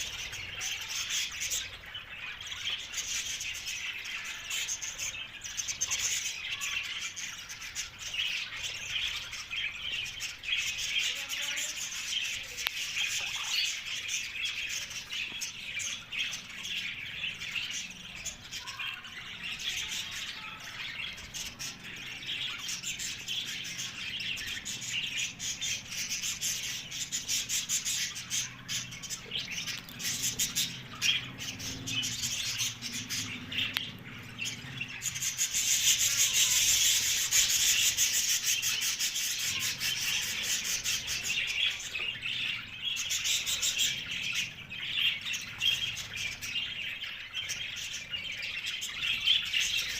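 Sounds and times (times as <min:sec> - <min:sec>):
parakeet squawking and chirping: 0:00.0 - 0:49.9.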